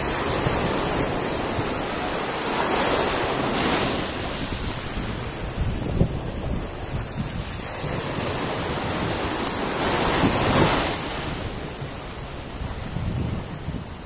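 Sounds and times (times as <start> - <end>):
waves washing on sandy beach: 0.0 - 14.0
wind buffeting microphone: 0.0 - 14.0.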